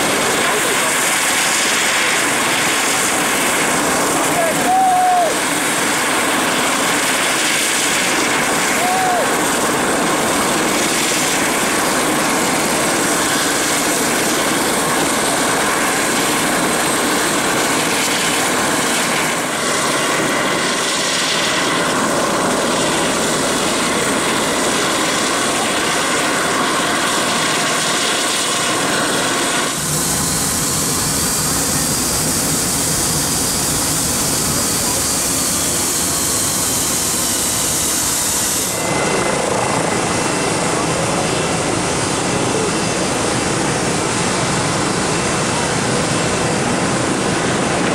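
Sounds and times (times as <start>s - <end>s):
faint high turbine whine: 0.0s - 47.9s
jet engines running: 0.0s - 47.9s.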